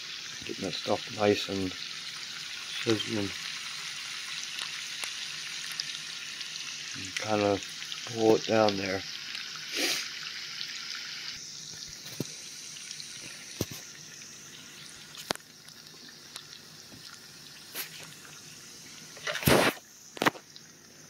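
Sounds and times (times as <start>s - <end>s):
meat sizzling in butter: 0.0s - 21.0s.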